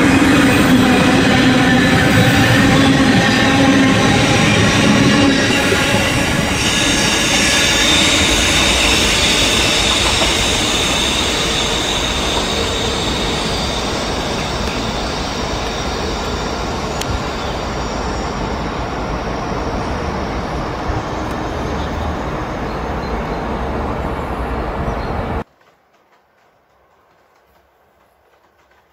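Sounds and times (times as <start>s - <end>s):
electric train running: 0.0s - 25.4s
rumble of train wheels: 0.0s - 28.9s.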